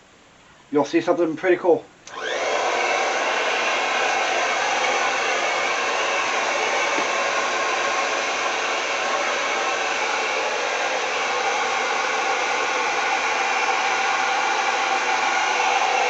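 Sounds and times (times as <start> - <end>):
blow dryer running: 2.1 - 16.0.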